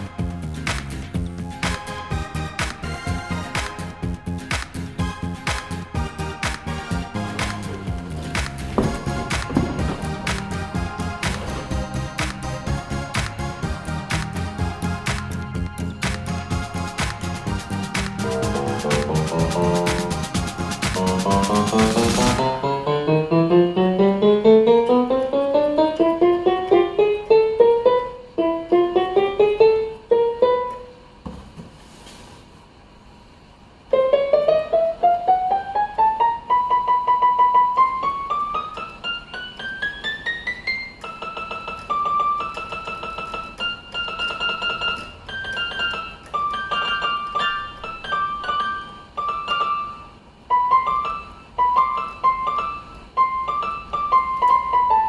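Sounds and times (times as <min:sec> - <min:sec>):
electronic keyboard piano notes: 0:01.2 - 0:31.1, 0:33.9 - 0:55.0.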